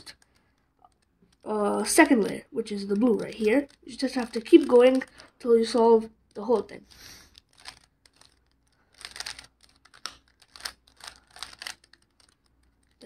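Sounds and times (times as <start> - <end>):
puzzle cube clicking: 0.0 - 13.0.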